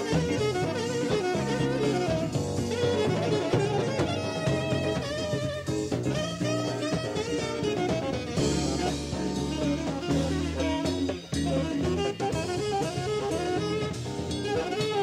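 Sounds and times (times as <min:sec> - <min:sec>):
live band playing: 0:00.0 - 0:15.0
saxophone: 0:00.0 - 0:15.0.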